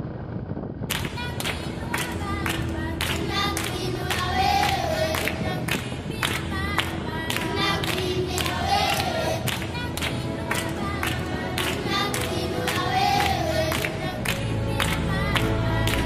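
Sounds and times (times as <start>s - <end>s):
voices singing live music: 1.2s - 16.0s.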